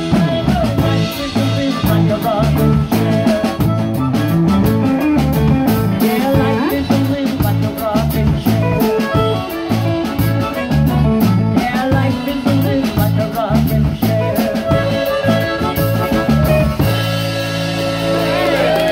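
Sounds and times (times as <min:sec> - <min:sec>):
amplified harmonica wailing: 0:00.0 - 0:18.9
live band playing: 0:00.0 - 0:18.9.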